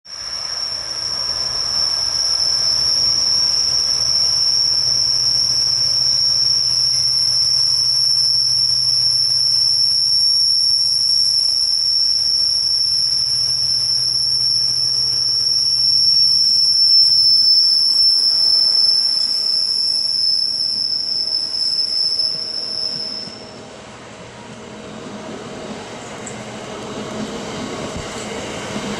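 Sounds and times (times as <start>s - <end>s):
high-pitched wheel squeal: 0.1s - 23.6s
diesel locomotive engine passing: 0.1s - 28.9s.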